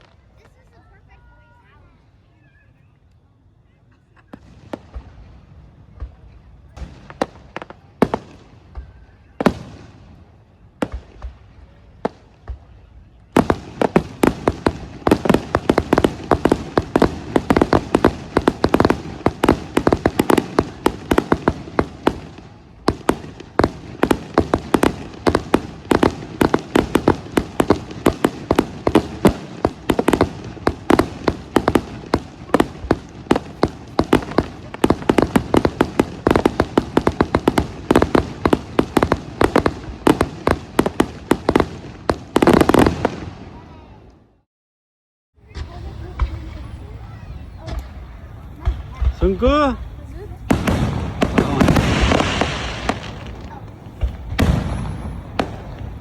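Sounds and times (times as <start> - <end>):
fireworks crackling and banging: 0.0 - 44.4, 45.4 - 56.0.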